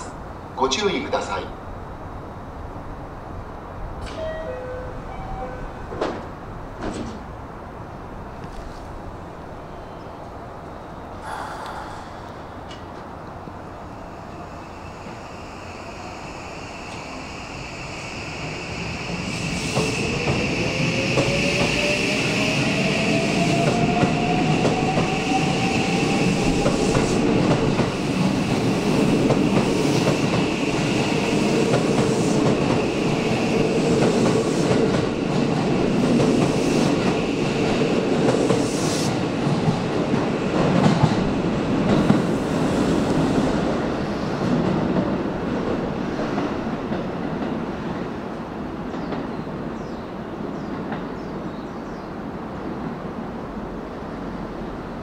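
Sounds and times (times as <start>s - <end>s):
train wheels rolling on rails: 3.1s - 55.0s.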